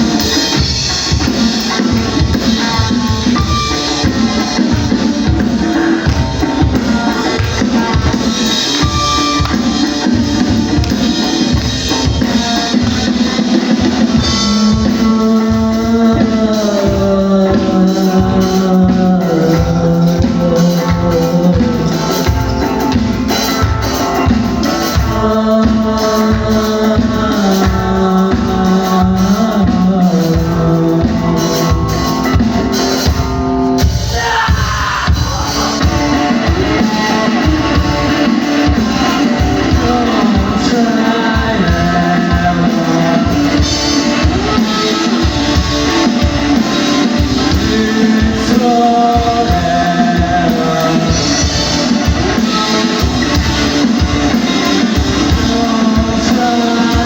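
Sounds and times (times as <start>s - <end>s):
drum kit beat: 0.0s - 57.0s
guitar: 0.0s - 57.0s
held melody line: 0.0s - 57.0s
rock band playing live: 0.0s - 57.0s.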